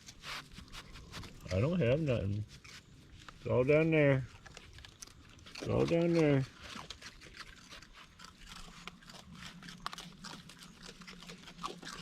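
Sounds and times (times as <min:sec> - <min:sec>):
raccoons crunching cereal: 0:00.0 - 0:12.0.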